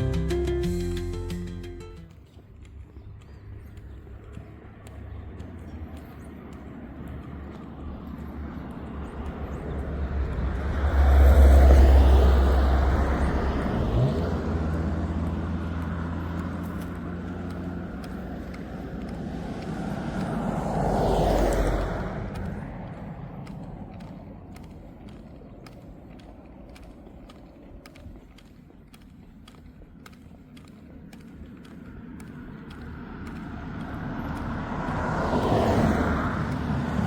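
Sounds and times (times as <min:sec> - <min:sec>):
motor vehicles passing by: 0:00.0 - 0:37.0.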